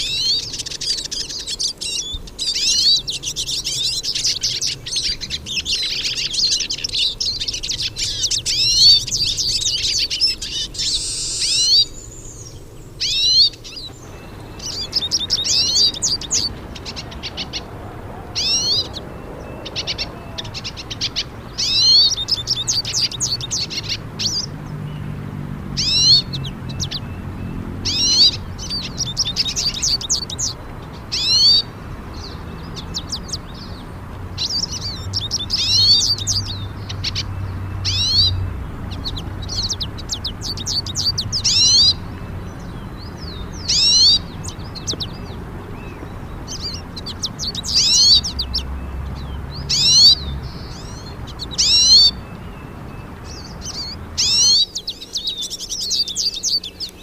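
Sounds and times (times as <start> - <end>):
birds twittering song: 0.0 - 57.0.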